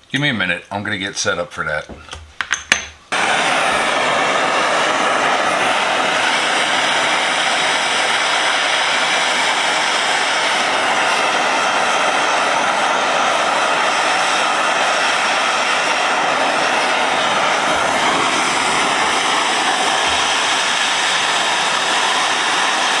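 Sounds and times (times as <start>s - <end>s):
heating tool roaring: 2.1s - 23.0s.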